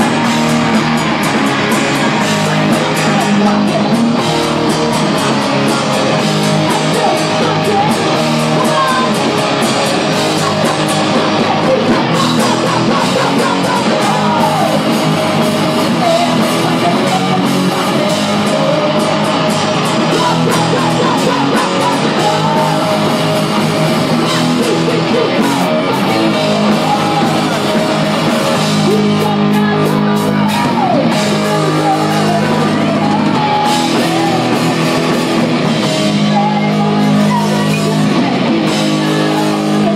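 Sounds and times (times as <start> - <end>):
bass: 0.0 - 39.9
drums: 0.0 - 39.9
electric guitars: 0.0 - 39.9.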